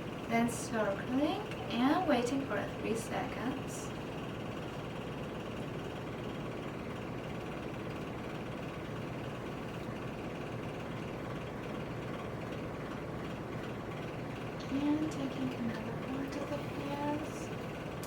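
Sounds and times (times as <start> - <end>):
hot air brush fan whirring: 0.0 - 18.0.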